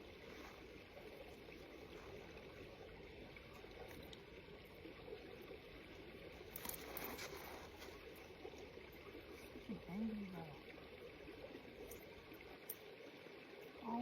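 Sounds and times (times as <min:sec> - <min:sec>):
water lapping and trickling: 0:00.0 - 0:14.0.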